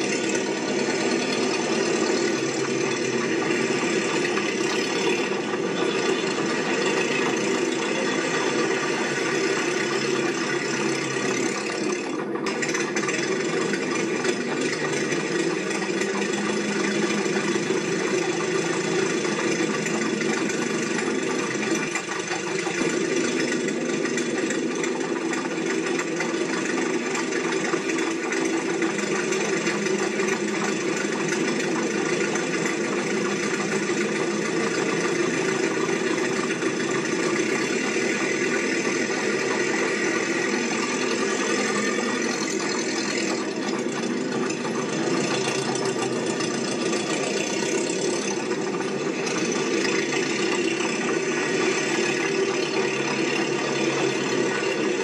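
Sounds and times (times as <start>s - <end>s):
mechanical drone: 0.0s - 55.0s.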